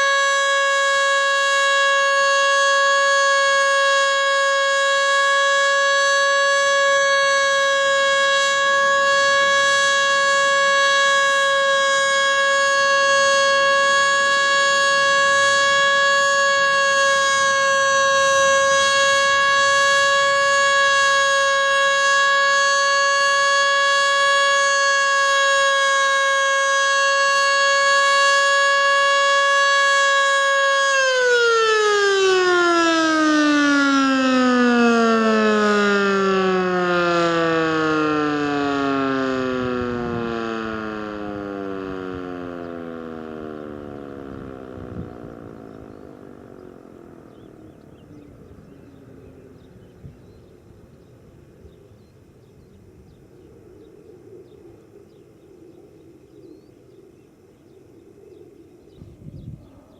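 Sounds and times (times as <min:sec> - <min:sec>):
warning siren tone: 0:00.0 - 0:59.9.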